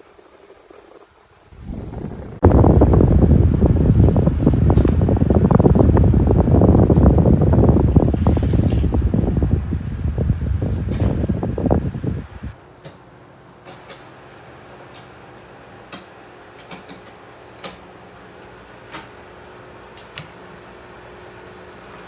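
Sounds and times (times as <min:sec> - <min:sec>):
electric fan humming: 0:00.0 - 0:22.0.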